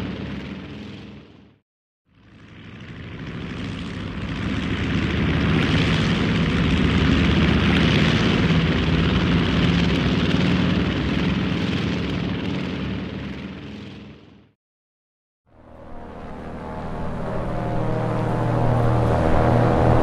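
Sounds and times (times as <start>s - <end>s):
turboprop airplane flying past: 0.0s - 14.6s, 15.5s - 20.0s.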